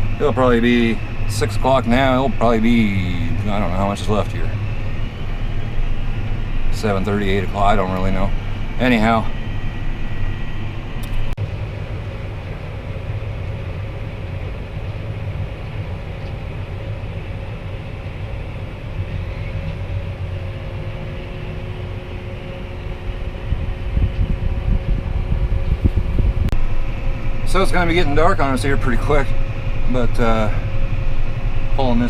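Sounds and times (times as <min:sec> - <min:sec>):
faint steady whine: 0:00.0 - 0:32.0
truck engine rumble: 0:00.0 - 0:32.0.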